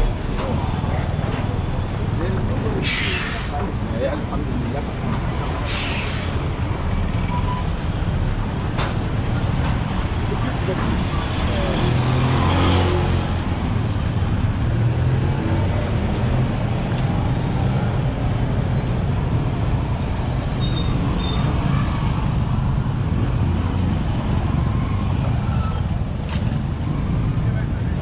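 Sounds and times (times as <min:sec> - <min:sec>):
car engines: 0:00.0 - 0:28.0
motorcycle engines: 0:00.0 - 0:28.0.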